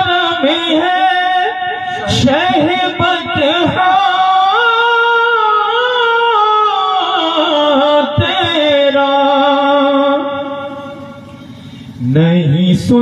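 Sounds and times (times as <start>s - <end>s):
man singing unaccompanied: 0.0s - 10.9s.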